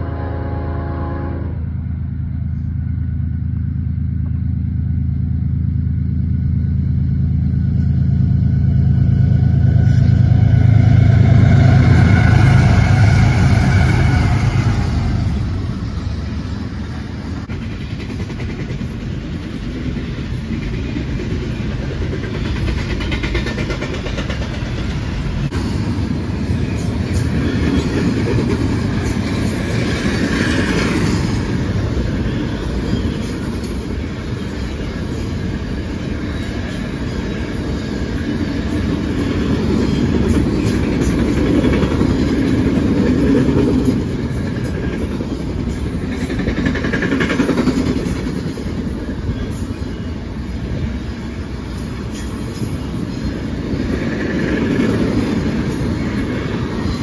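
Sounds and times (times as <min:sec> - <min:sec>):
diesel locomotive engine hum: 0:00.0 - 0:57.0
train wheels rumbling on rail: 0:00.0 - 0:57.0.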